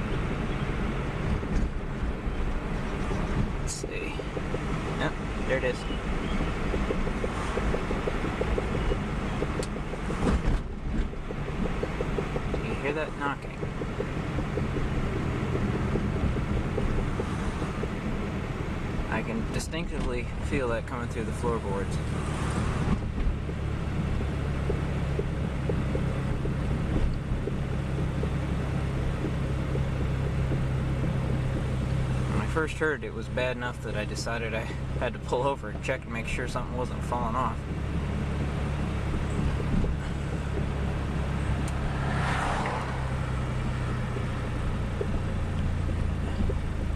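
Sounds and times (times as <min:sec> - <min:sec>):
car running and road noise: 0:00.0 - 0:46.9
rapid rhythmic wheel knocking: 0:01.2 - 0:46.9.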